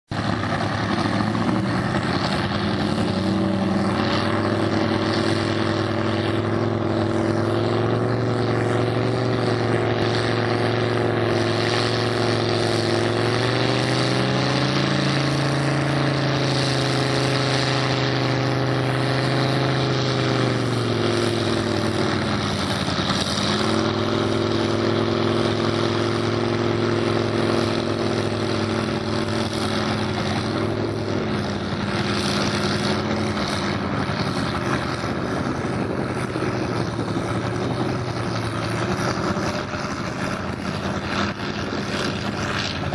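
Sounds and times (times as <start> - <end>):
truck engine running under load: 0.0 - 42.9
churned water rushing: 0.1 - 42.9.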